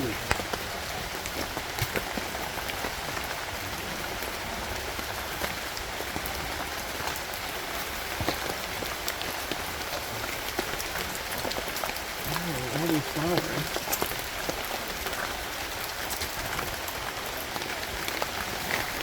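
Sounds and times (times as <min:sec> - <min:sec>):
raindrops ticking: 0:00.0 - 0:19.0
steady rainfall: 0:00.0 - 0:19.0.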